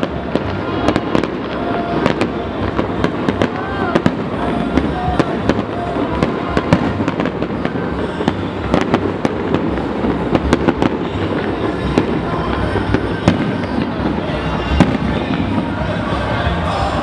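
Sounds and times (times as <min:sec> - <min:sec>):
fireworks cracking and popping: 0:00.0 - 0:17.0
fireworks rumble: 0:00.0 - 0:17.0.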